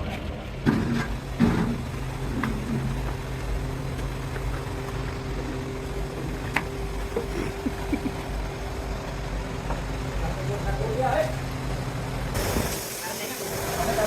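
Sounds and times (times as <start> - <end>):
machinery humming: 0.3 - 14.0.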